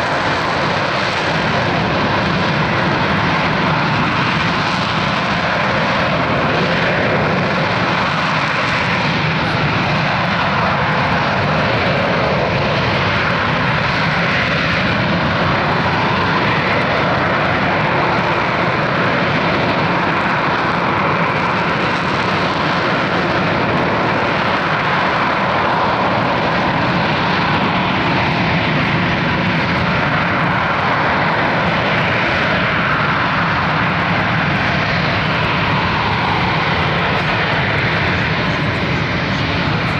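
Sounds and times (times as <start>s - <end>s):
jet engine running steadily: 0.0s - 39.9s.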